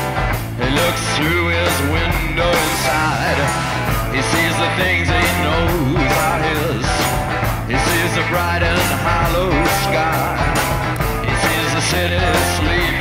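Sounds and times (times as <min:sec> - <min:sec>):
bass: 0:00.0 - 0:13.0
drum beat: 0:00.0 - 0:13.0
person singing rock song: 0:00.0 - 0:13.0.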